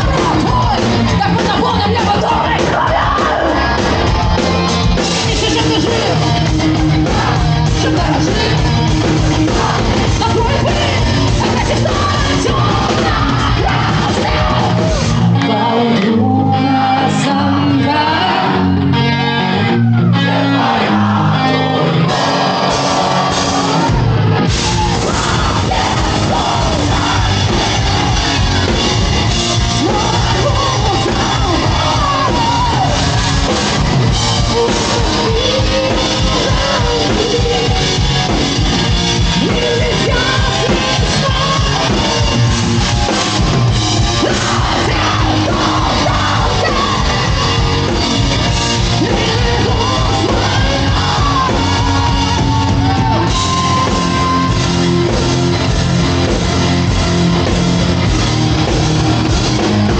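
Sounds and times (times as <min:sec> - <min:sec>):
singer yelling vocals: 0:00.0 - 0:55.7
live heavy rock band playing: 0:00.0 - 0:59.9.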